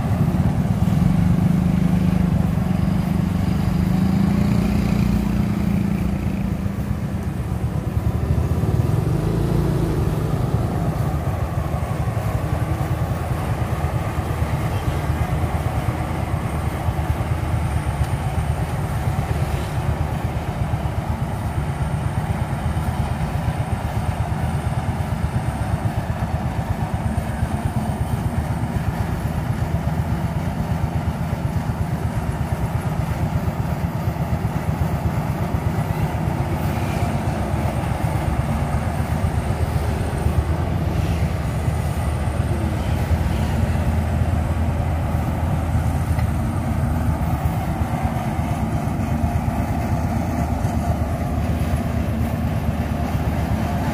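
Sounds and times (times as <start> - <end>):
combine harvester droning: 0.0 - 53.9.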